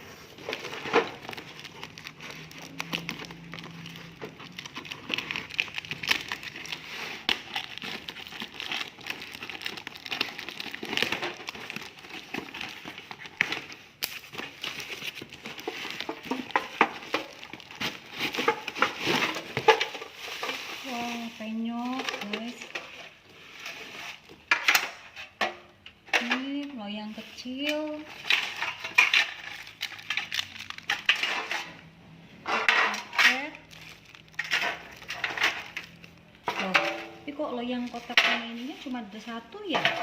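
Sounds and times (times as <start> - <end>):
packaging crinkling and rustling: 0.0 - 25.0, 26.6 - 31.9, 32.6 - 40.0.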